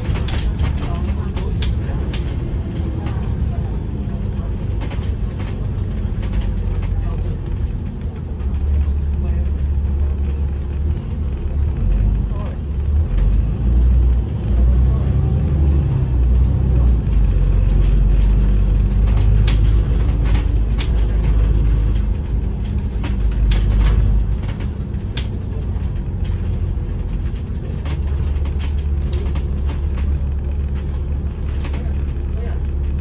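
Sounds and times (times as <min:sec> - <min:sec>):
bus engine rumble: 0:00.0 - 0:33.0
road noise: 0:00.0 - 0:33.0.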